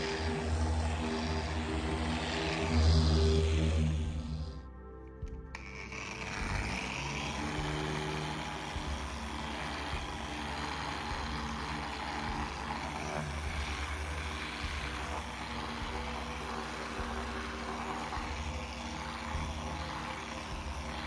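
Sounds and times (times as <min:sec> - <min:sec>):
polisher scrubbing fabric: 0:00.0 - 0:04.6, 0:05.6 - 0:21.0.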